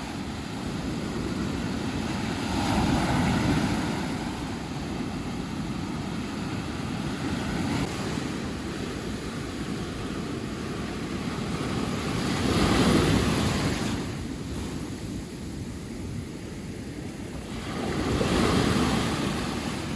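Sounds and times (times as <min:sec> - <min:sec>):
sea waves breaking on beach: 0:00.0 - 0:19.9
wind buffeting microphone: 0:00.0 - 0:19.9.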